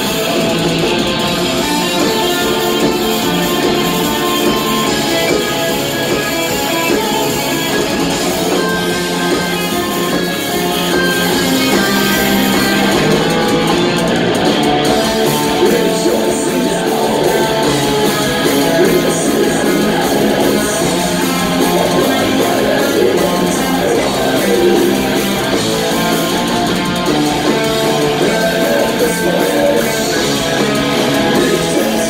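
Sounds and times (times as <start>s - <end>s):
electric guitars strumming: 0.0s - 32.0s
heavy metal band playing live: 0.0s - 32.0s.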